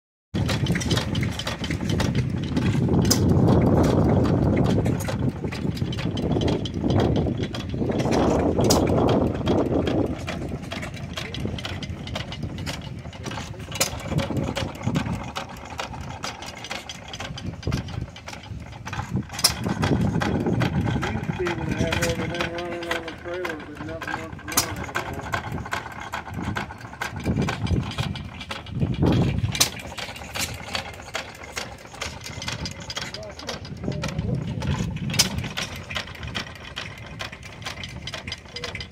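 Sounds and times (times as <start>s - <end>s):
heavy rumble: 0.4s - 38.9s
stationary gas engines popping: 0.4s - 38.9s.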